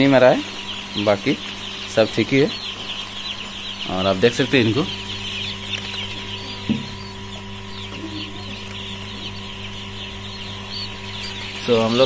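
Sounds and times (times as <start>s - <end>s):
chicks peeping: 0.0s - 12.0s
steady low hum: 0.0s - 12.0s.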